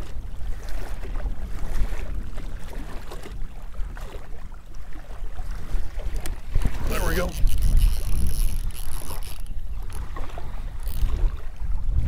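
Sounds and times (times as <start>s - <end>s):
waves lapping at shoreline: 0.0s - 12.0s
wind buffeting microphone: 0.0s - 12.0s.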